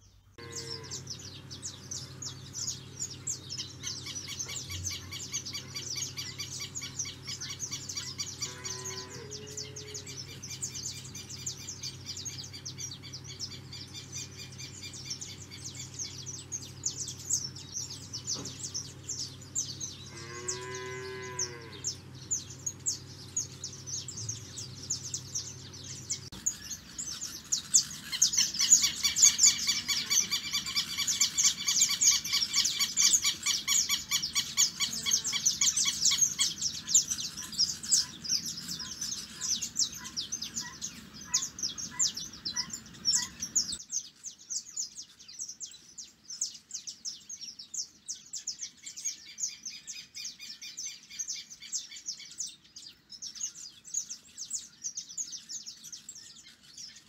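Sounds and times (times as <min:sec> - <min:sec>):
ibis calling: 0:00.0 - 0:57.0
small birds chirping: 0:00.0 - 0:57.0.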